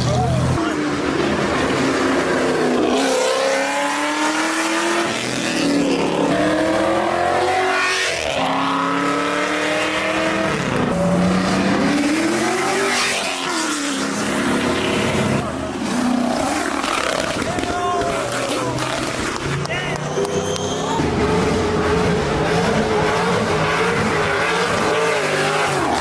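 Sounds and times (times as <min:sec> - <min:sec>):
car engine revving hard: 0:00.0 - 0:19.5, 0:21.0 - 0:26.0.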